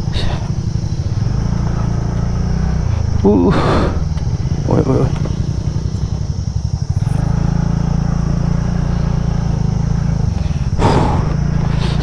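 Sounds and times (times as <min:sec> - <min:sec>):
scooter engine under throttle: 0:00.0 - 0:12.0.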